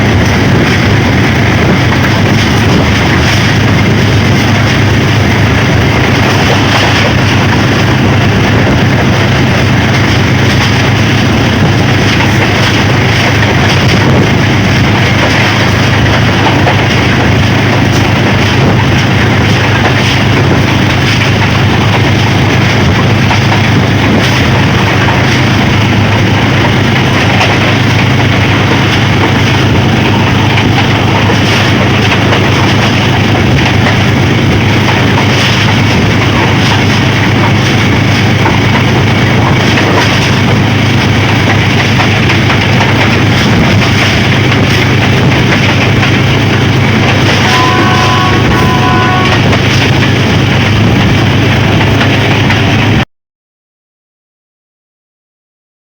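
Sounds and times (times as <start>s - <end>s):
diesel locomotive running: 0.0s - 53.0s.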